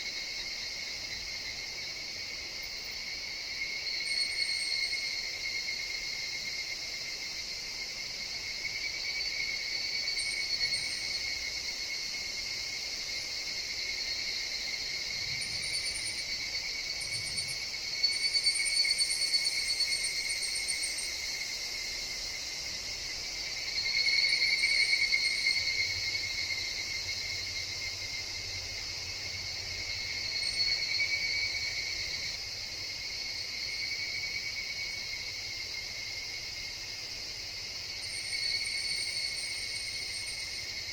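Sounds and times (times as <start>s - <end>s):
cicadas singing in chorus: 0.0s - 40.9s.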